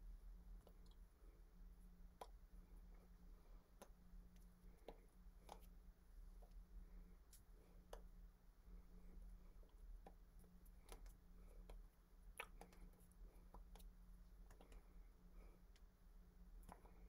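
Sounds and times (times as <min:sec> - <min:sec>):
low steady hum: 0:00.0 - 0:17.0
faint clicks and taps: 0:00.5 - 0:01.4, 0:02.0 - 0:08.2, 0:08.9 - 0:17.0.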